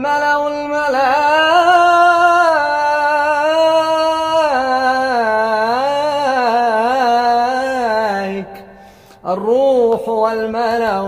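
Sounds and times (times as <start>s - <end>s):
man singing melismatic vocal: 0.0s - 11.0s.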